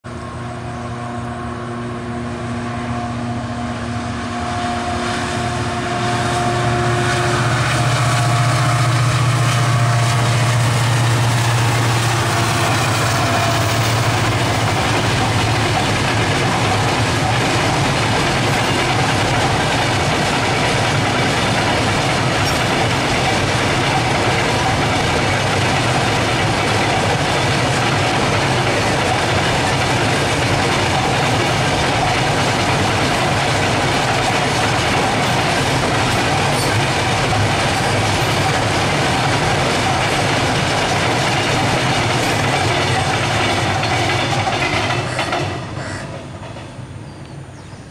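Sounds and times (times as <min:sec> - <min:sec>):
diesel locomotive engine drone: 0:00.0 - 0:47.9
train wagons rumbling and rattling: 0:00.0 - 0:47.9.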